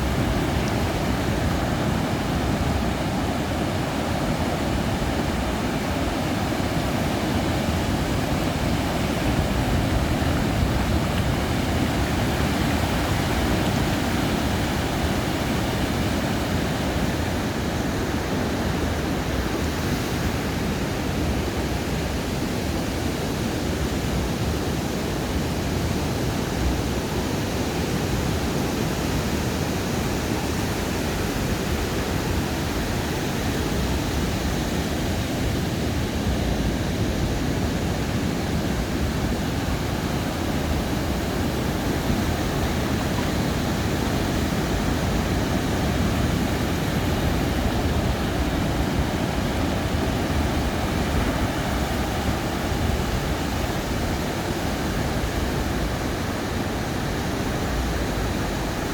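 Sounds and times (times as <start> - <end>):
ocean surf on beach: 0.0 - 58.9.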